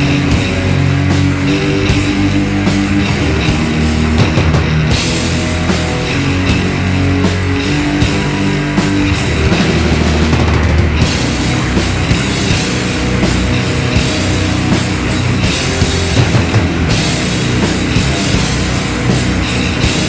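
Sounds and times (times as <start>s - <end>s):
bass guitar: 0.0s - 20.0s
distorted electric guitars: 0.0s - 20.0s
drum kit with cymbal crashes: 0.0s - 20.0s.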